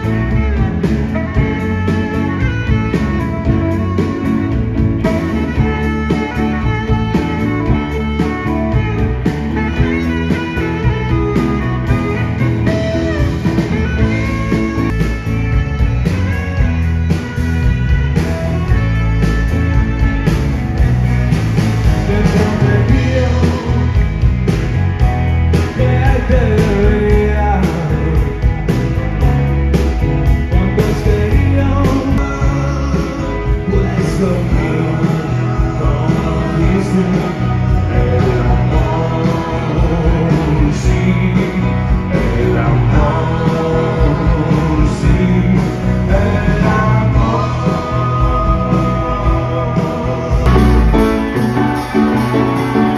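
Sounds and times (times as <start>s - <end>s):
bass: 0.0s - 52.9s
electric guitar: 0.0s - 52.9s
steady drum beat: 0.0s - 52.9s.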